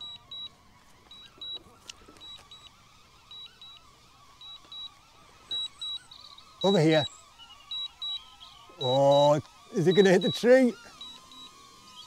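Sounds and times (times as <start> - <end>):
faint wavering high hum: 0.0 - 12.0.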